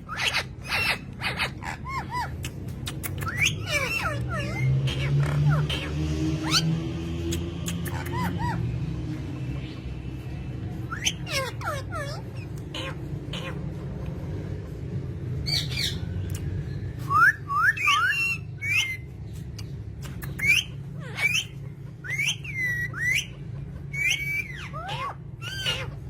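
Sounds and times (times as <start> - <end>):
parrots squawking: 0.0 - 26.0
steady low hum: 0.0 - 26.0.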